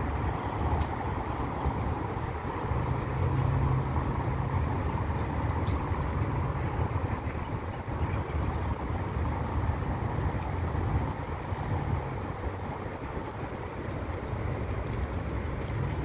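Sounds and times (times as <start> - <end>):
road traffic rumbling: 0.0 - 16.0.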